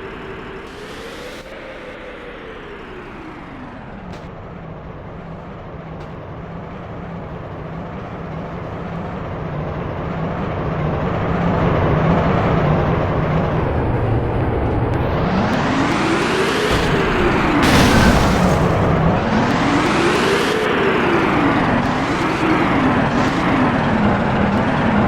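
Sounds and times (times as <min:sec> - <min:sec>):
road noise: 0:03.0 - 0:25.0
vehicle engine humming: 0:03.7 - 0:25.0.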